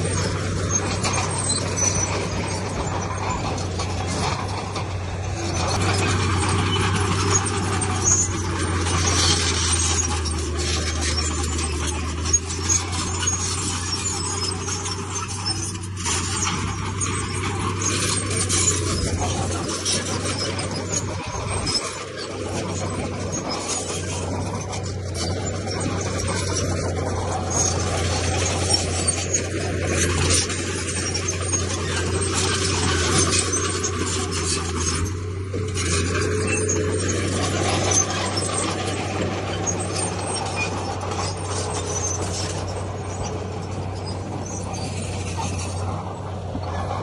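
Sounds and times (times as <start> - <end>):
diesel machinery engine hum: 0.0 - 47.0
metallic squeaking and scraping: 0.0 - 47.0.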